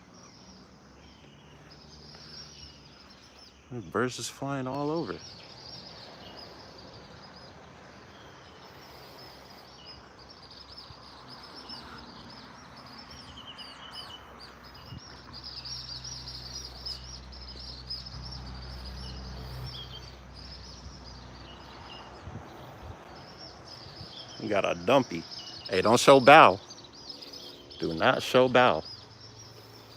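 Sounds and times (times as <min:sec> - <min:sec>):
bird chirps: 0:00.0 - 0:29.9
insects chirring: 0:00.0 - 0:29.9.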